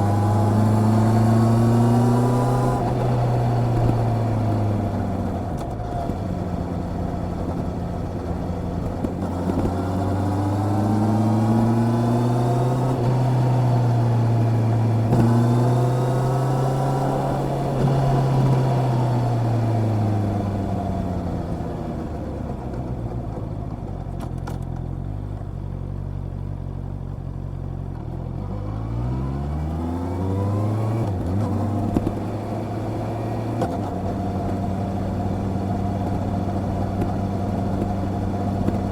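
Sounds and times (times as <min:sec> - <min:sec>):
motorcycle engine revving: 0:00.0 - 0:21.8, 0:28.5 - 0:38.9.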